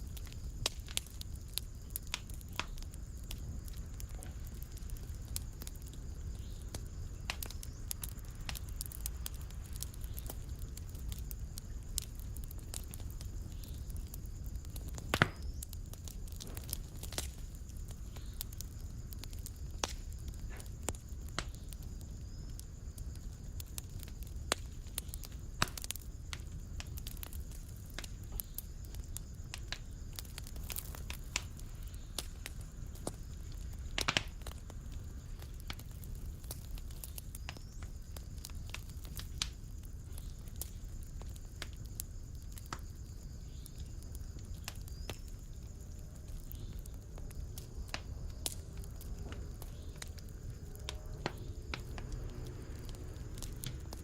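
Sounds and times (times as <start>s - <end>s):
fire snaps and pops: 0.0s - 54.0s
low rumble of burning: 0.0s - 54.0s.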